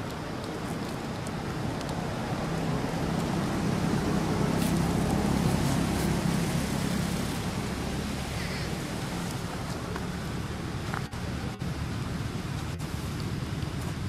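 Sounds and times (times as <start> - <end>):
road vehicle passing: 0.0 - 14.0.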